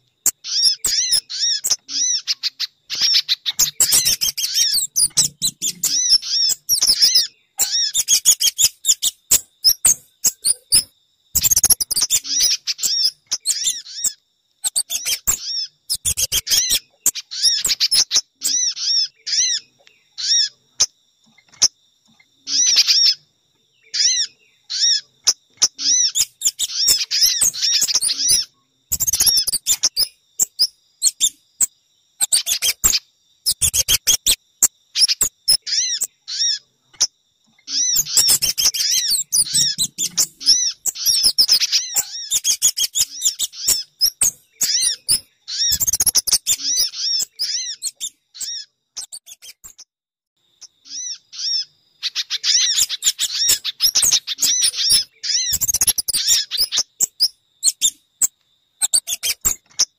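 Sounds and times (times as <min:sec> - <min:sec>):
high sharp bird chirps: 0:00.0 - 0:21.8, 0:22.4 - 0:23.2, 0:23.9 - 0:49.9, 0:50.6 - 0:59.9.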